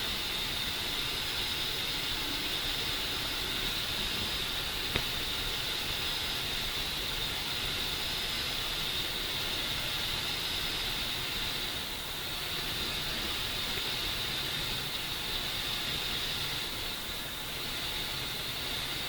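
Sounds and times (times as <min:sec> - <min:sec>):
steady high-pitched hiss: 0:00.0 - 0:19.0.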